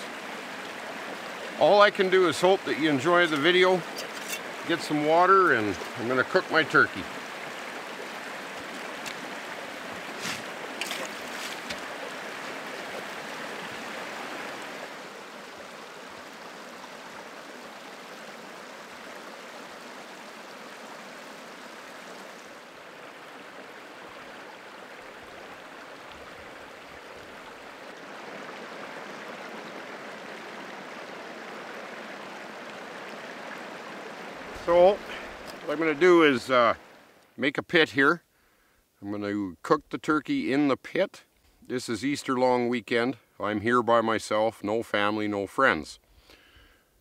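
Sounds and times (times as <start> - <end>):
creek water rushing over cascades: 0.0 - 37.9.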